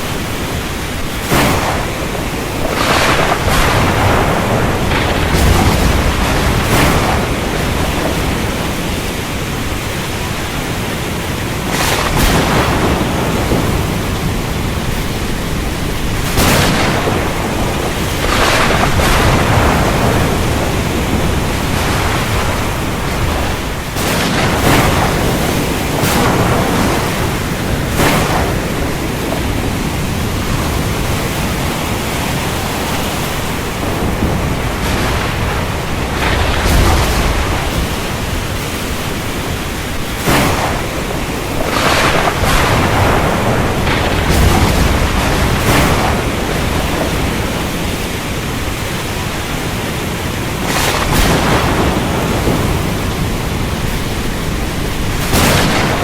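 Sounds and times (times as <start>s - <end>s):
heavy rain falling: 0.0s - 56.0s
sharp thunder cracks: 0.7s - 49.6s, 50.5s - 56.0s.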